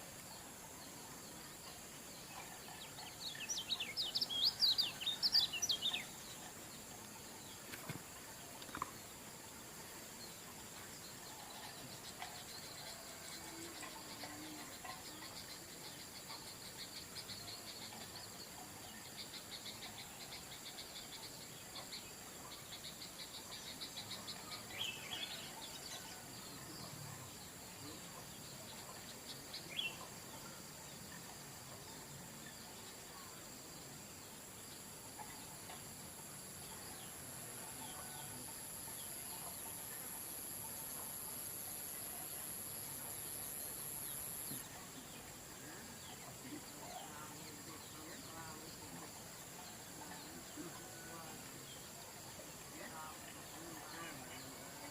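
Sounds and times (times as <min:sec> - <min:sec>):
crickets trilling: 0:00.0 - 0:54.9
high-pitched insect tones: 0:00.0 - 0:54.9.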